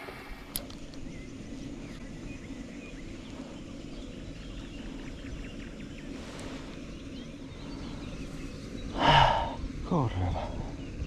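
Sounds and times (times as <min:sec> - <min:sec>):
distant birds chirping: 0:00.0 - 0:11.0
wind rumble on microphone: 0:00.0 - 0:11.0.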